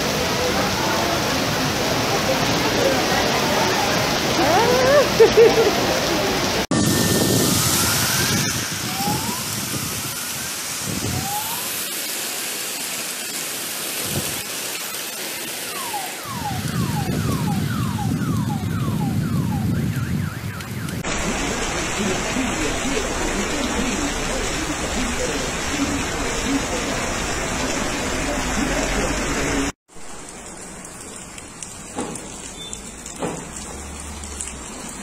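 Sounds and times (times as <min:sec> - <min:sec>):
heavy rain hissing: 0:00.0 - 0:18.0, 0:21.0 - 0:35.0.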